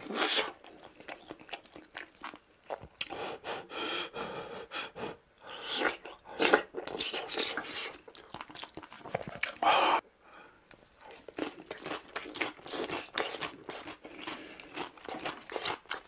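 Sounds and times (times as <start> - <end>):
man chewing food: 0.0 - 4.1, 4.8 - 10.0, 10.7 - 16.0.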